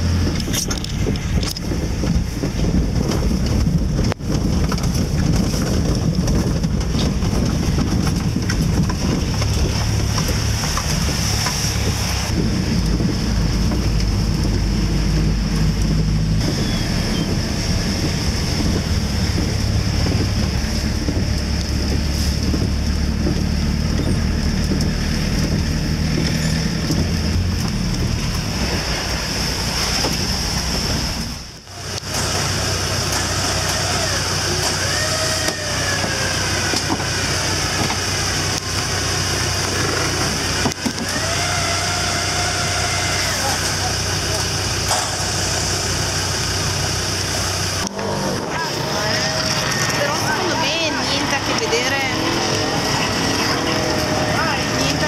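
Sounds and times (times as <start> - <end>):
engine idling: 0.0 - 55.0
van engine driving inside cabin: 0.0 - 55.0.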